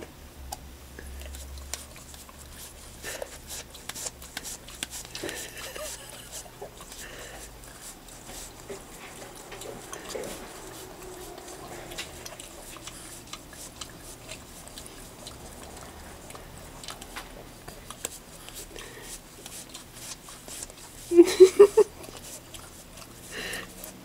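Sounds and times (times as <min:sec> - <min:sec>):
dog lapping from plastic cup: 0:01.0 - 0:24.0.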